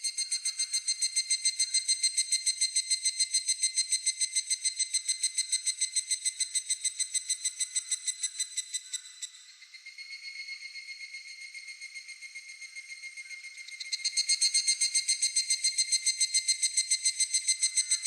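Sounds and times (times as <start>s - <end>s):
cicada ringing call: 0.0s - 18.0s.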